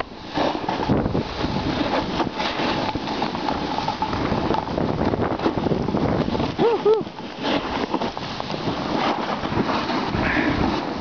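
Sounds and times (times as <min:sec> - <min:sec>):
skis sliding over snow: 0:00.0 - 0:11.0
wind buffeting microphone: 0:00.0 - 0:11.0.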